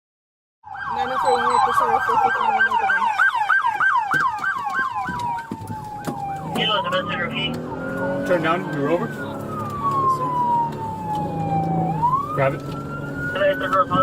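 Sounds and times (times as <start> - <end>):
police siren: 0.6 - 14.0.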